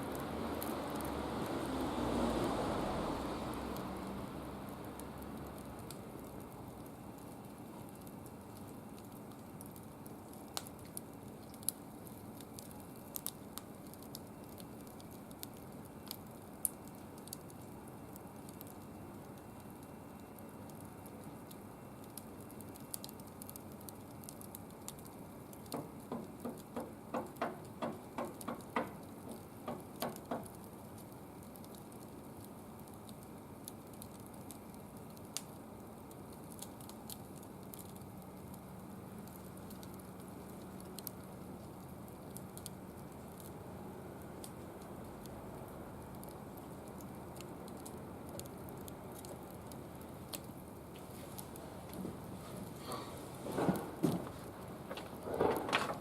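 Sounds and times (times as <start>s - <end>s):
fire crackling and popping: 0.0s - 56.0s
fire hissing: 0.1s - 56.0s.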